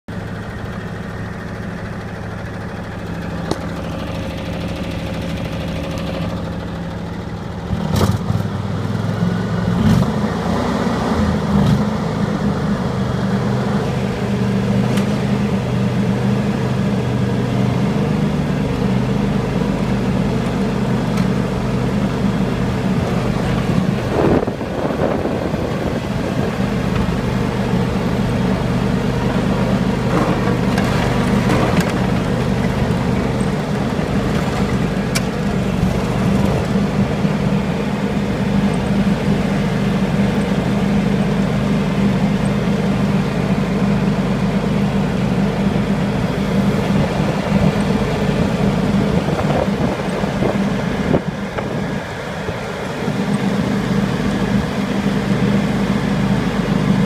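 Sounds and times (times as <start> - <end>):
lawn tractor engine running: 0.1 - 57.0.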